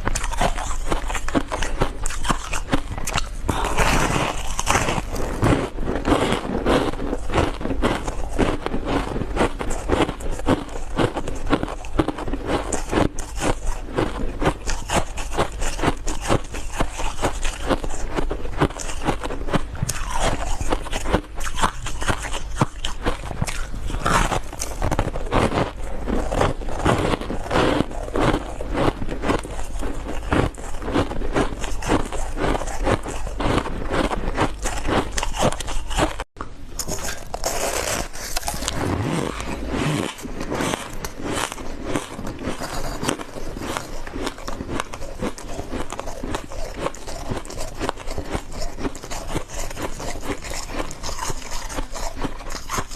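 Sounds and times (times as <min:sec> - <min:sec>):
chewing crunchy ice: 0:00.0 - 0:52.9.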